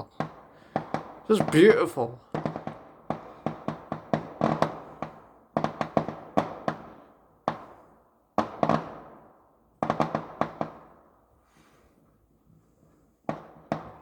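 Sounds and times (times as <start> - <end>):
fireworks bangs with echo: 0.1 - 11.1, 13.2 - 14.0.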